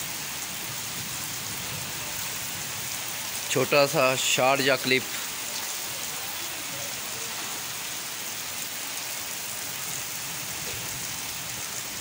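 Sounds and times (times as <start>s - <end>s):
heavy rain on wet concrete: 0.0s - 12.0s.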